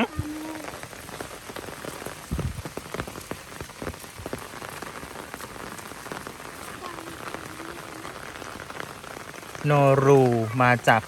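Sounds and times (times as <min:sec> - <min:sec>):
raindrops hitting close by: 0:00.0 - 0:11.0
steady rain falling: 0:00.0 - 0:11.0.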